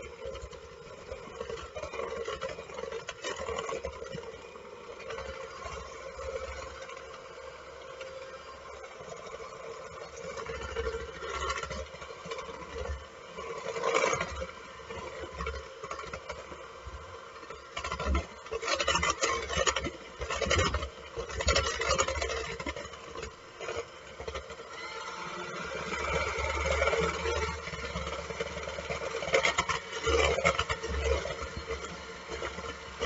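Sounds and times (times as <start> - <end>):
beaters churning in a bowl: 0.0 - 33.0
electric mixer motor hum: 0.0 - 33.0.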